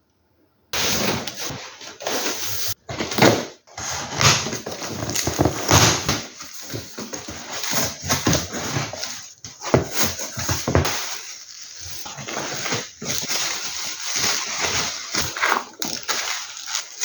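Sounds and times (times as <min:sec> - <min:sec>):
packaging crackling and rustling: 0:00.8 - 0:17.0.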